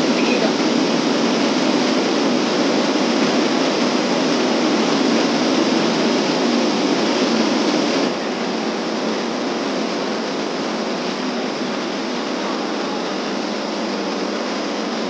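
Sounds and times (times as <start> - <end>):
stream rushing over boulders: 0.0 - 15.0.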